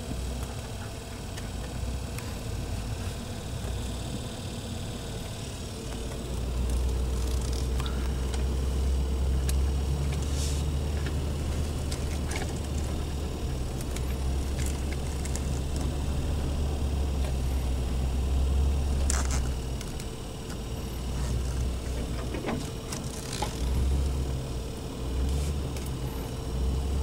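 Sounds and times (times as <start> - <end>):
pickup truck engine running: 0.0 - 27.0.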